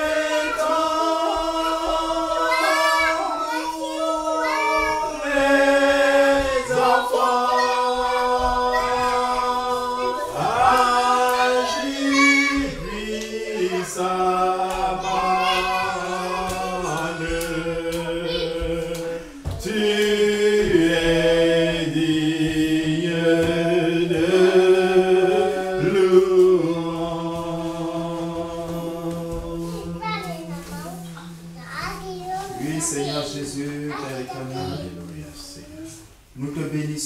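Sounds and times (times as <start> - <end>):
group singing unaccompanied: 0.0 - 35.2.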